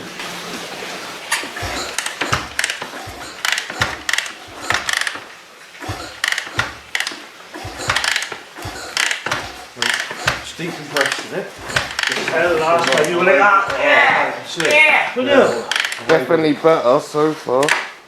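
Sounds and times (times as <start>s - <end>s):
engine turned over clicking: 0.2s - 18.0s.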